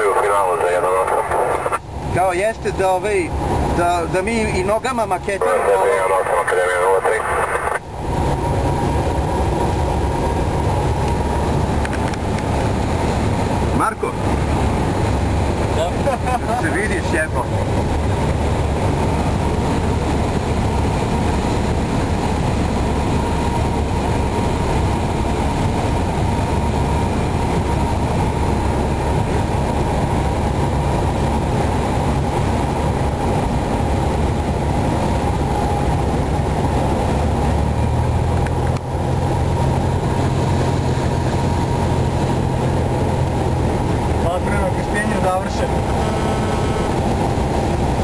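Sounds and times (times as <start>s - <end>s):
light aircraft engine droning: 0.0s - 48.0s.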